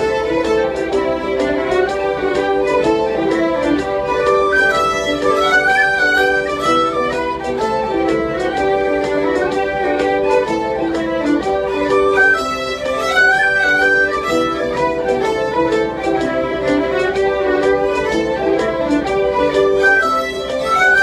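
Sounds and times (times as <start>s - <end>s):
fiddles playing lively tune: 0.0s - 21.0s.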